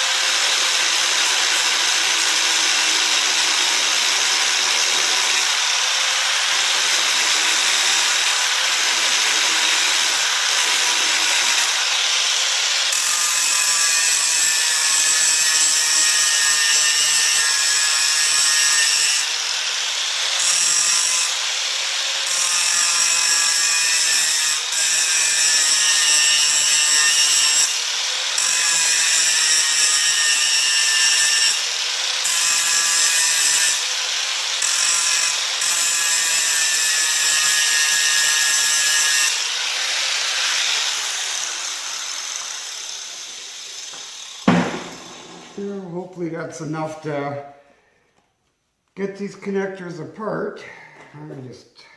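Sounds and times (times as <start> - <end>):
power tool cutting metal: 0.0 - 45.6.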